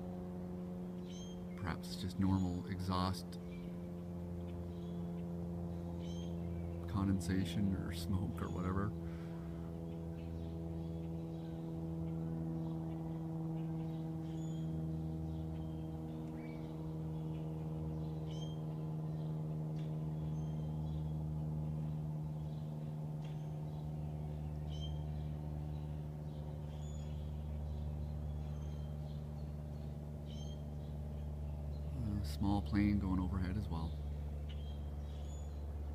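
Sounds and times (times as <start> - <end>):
small birds chirping: 0.0 - 35.9
steady machine hum: 0.0 - 35.9.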